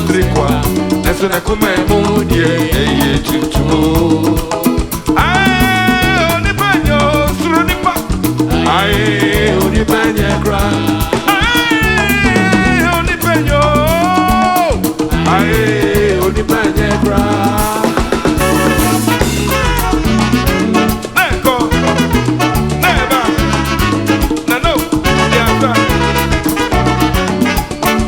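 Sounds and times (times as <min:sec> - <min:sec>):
traditional band music: 0:00.0 - 0:28.0.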